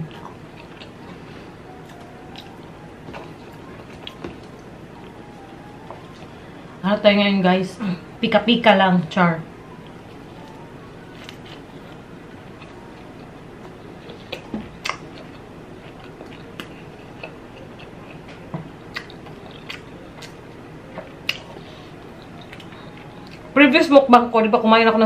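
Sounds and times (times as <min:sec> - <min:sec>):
person chewing food: 0:00.0 - 0:06.4, 0:09.8 - 0:23.6.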